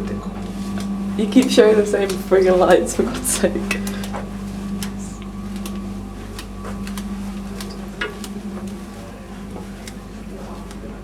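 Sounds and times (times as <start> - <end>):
light clicks and taps: 0.0 - 10.9
low machine hum: 0.0 - 11.0.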